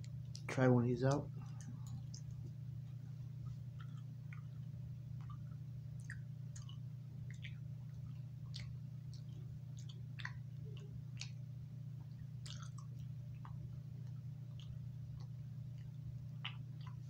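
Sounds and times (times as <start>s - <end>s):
person chewing gum: 0.0s - 0.5s, 1.1s - 17.0s
steady low hum: 0.0s - 17.0s
wet mouth smacking clicks: 1.1s - 2.6s, 3.8s - 11.4s, 12.0s - 17.0s.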